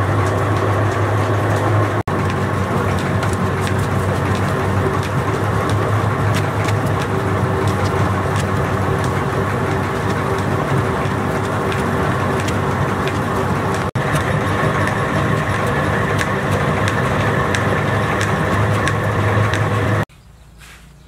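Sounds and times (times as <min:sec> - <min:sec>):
dough kneading machine humming: 0:00.0 - 0:20.1.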